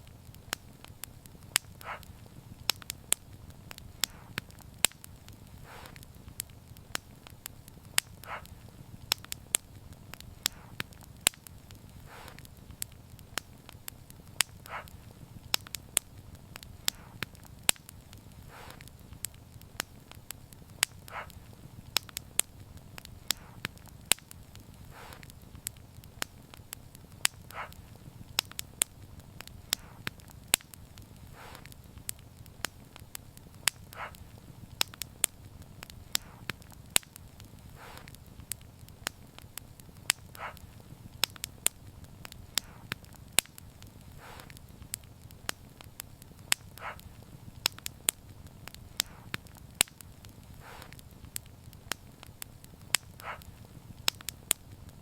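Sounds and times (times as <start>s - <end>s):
low rumble of flames: 0.0s - 55.0s
soft hiss of fire: 0.0s - 55.0s
wood fire crackling and popping: 0.0s - 55.0s.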